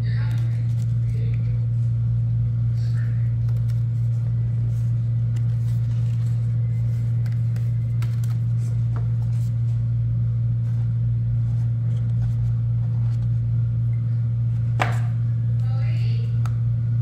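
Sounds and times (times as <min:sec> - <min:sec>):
low-pitched hum: 0:00.0 - 0:17.0.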